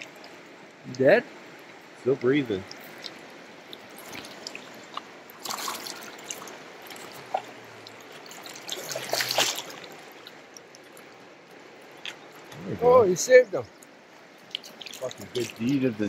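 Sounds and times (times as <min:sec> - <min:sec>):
river water trickling over rocks: 0:00.0 - 0:16.0
water splashes: 0:00.0 - 0:16.0.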